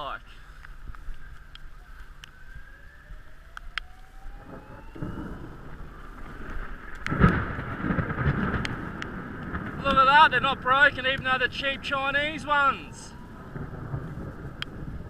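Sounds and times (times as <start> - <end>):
distant siren rising in pitch: 0.0 - 15.0
light wind: 0.0 - 15.0.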